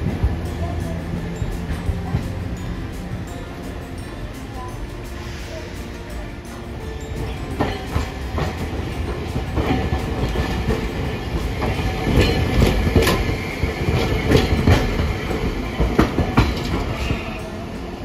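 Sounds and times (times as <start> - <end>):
streetcar wheels clacking over rails: 0.0 - 18.0.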